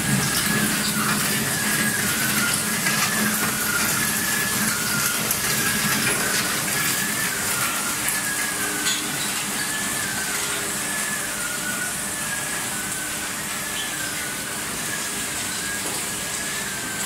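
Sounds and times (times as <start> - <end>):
high wavering whine: 0.0 - 17.0
machinery hiss and hum: 0.0 - 17.0.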